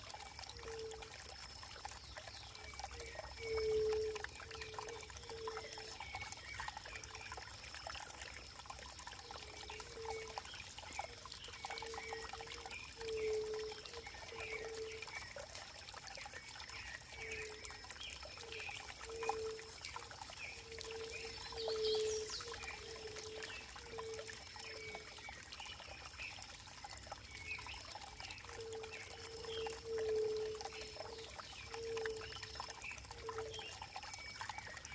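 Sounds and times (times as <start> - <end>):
water trickling and pouring: 0.0 - 34.9.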